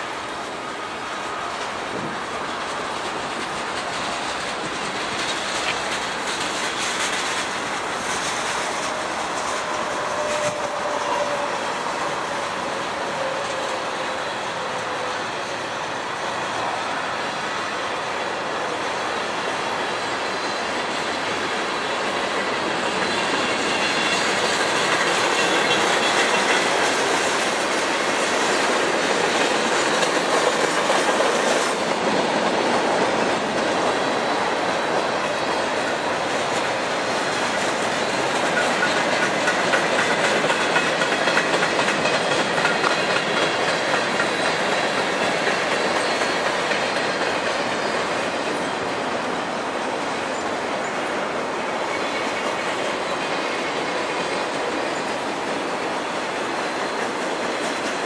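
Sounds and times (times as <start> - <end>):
rhythmic clickety-clack of wheels: 0.0 - 58.0
steel wheels rolling on rail: 0.0 - 58.0.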